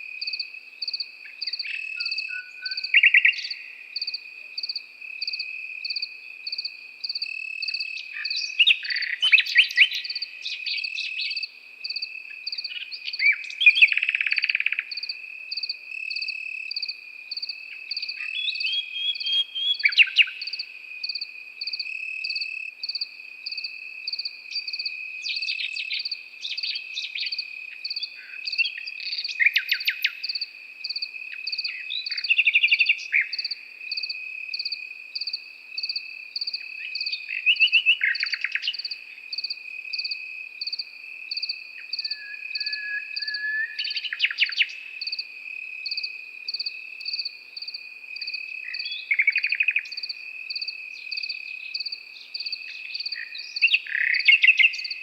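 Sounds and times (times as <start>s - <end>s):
crickets chirping: 0.0s - 55.0s
nightingale singing: 0.0s - 55.0s.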